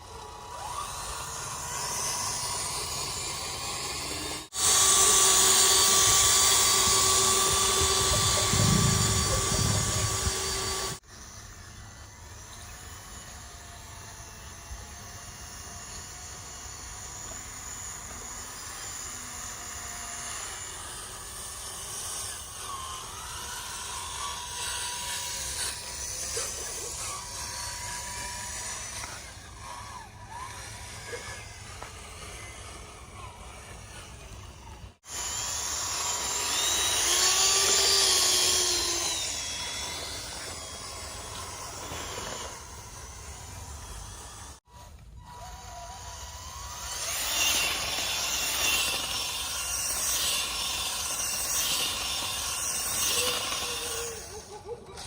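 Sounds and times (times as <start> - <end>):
small electric motor whining: 0.0 - 55.0.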